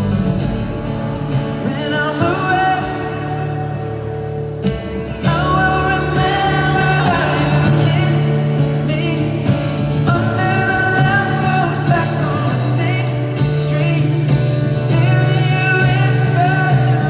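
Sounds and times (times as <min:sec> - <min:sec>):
acoustic guitar: 0:00.0 - 0:17.0
person singing: 0:01.6 - 0:04.0, 0:05.1 - 0:17.0.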